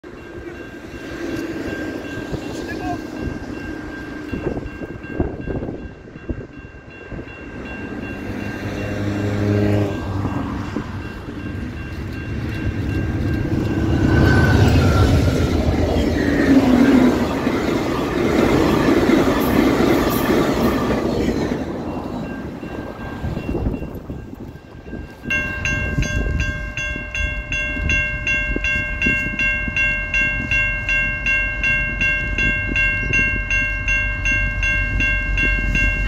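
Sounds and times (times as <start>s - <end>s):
level-crossing bell ringing: 0.0s - 36.0s
train rolling on rails: 0.0s - 36.0s.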